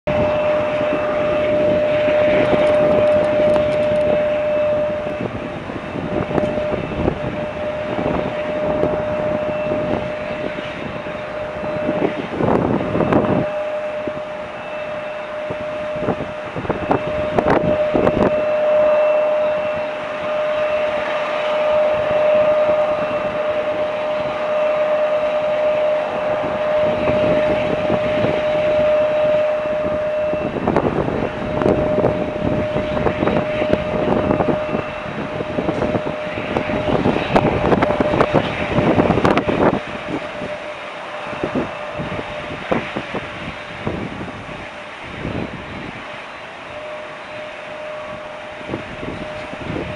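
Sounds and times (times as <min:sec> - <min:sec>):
steady mechanical whine: 0:00.0 - 0:49.9
wind buffeting microphone: 0:00.0 - 0:49.9.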